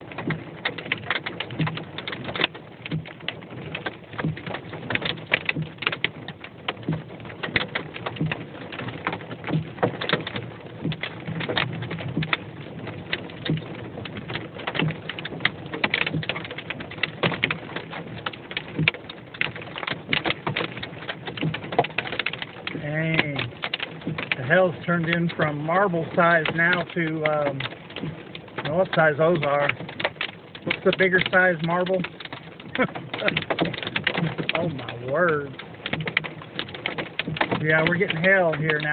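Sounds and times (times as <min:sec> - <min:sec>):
hail hitting car roof: 0:00.0 - 0:38.9.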